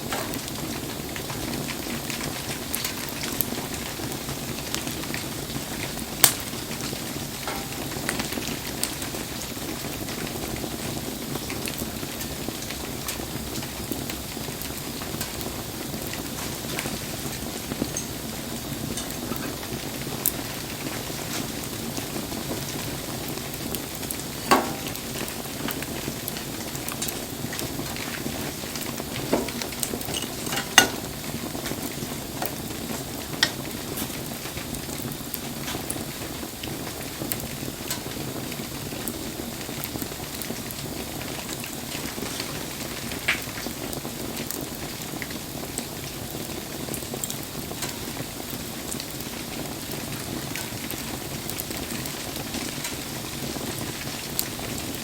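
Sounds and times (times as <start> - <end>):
burning wood popping: 0.0 - 55.0
campfire crackling: 0.0 - 55.0
rain hissing on fire: 0.0 - 55.0.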